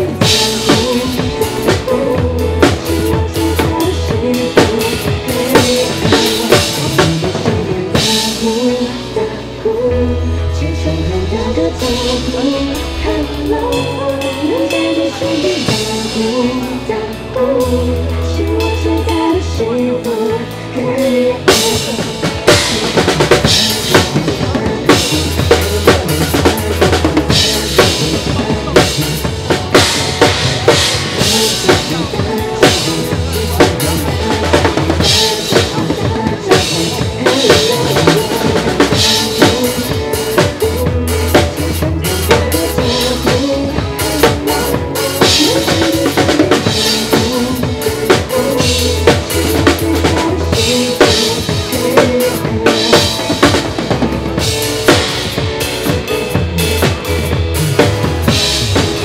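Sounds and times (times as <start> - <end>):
drum kit playing: 0.0 - 59.0
pop backing track: 0.0 - 59.0.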